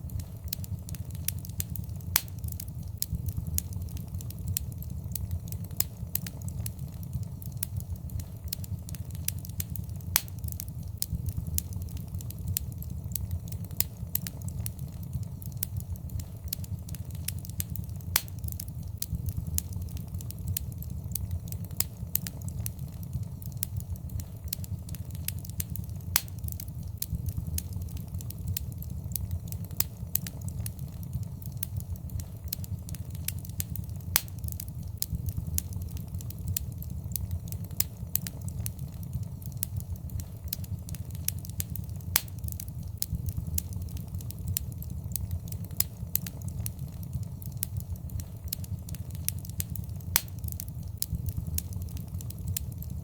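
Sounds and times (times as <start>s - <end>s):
fireplace fire crackling: 0.0s - 53.0s
low steady rumble: 0.0s - 53.0s.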